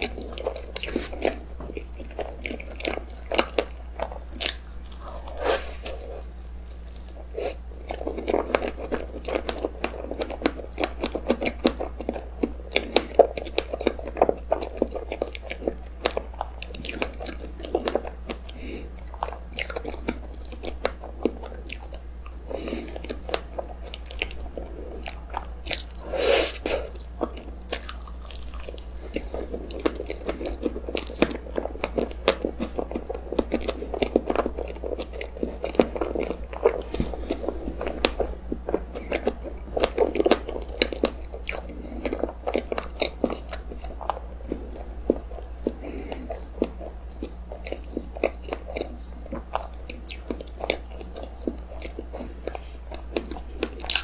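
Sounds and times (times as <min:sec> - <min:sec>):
close chewing mouth sounds: 0:00.0 - 0:54.0.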